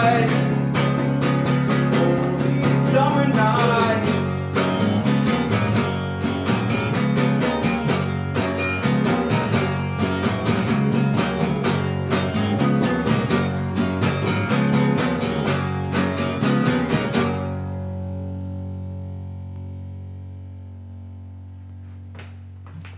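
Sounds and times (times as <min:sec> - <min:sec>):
acoustic guitar strumming: 0:00.0 - 0:22.2
electric bass guitar: 0:00.0 - 0:22.9.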